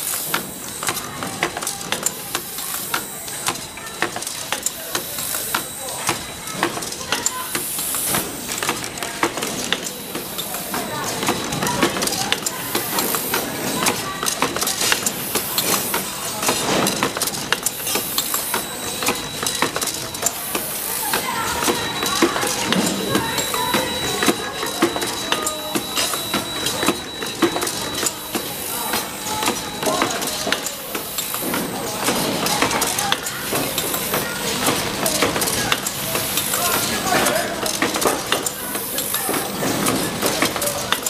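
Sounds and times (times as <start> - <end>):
machine metallic clicks and clacks: 0.0 - 41.0.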